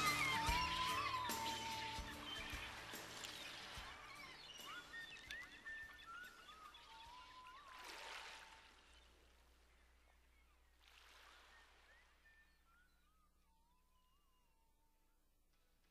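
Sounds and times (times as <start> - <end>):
bird chirps: 0.0 - 14.8.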